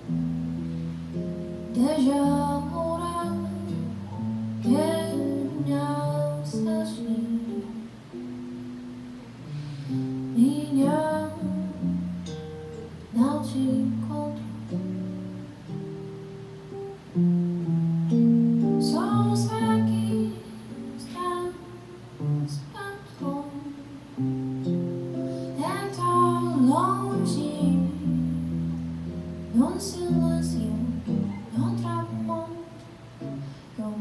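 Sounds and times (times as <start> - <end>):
electric guitar playing jazz: 0.0 - 34.0.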